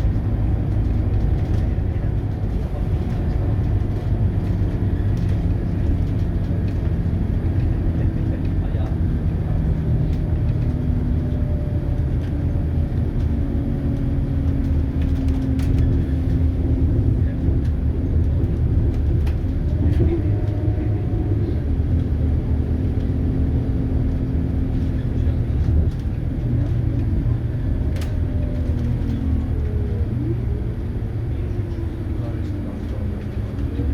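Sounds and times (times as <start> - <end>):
bus diesel engine rumble: 0.0 - 33.9.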